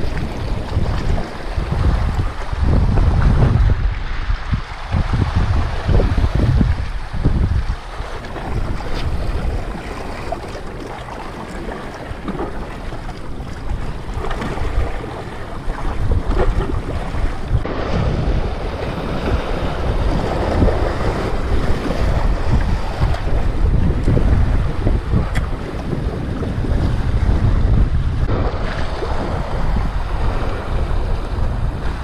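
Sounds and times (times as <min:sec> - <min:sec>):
waves splashing against rocks: 0:00.0 - 0:32.0
wind buffeting microphone: 0:00.0 - 0:32.0.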